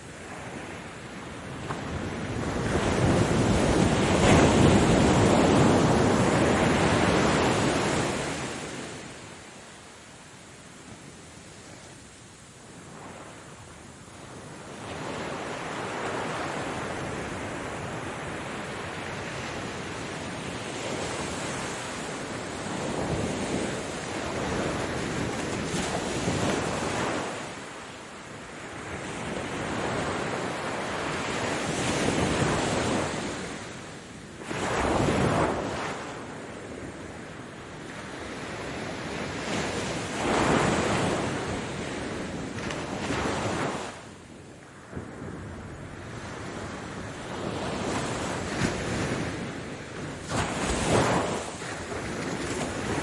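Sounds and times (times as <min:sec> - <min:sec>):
ocean waves washing onto shore: 0:00.0 - 0:53.0.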